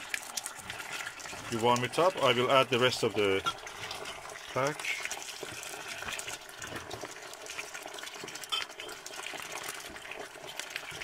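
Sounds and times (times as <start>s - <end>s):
sauce sizzling in a frying pan: 0.0s - 11.0s.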